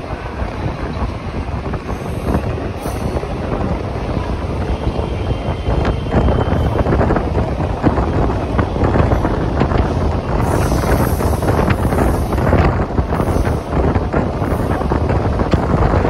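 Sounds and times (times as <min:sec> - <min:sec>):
train coach rumble: 0:00.0 - 0:16.0
wind buffeting microphone: 0:00.0 - 0:16.0.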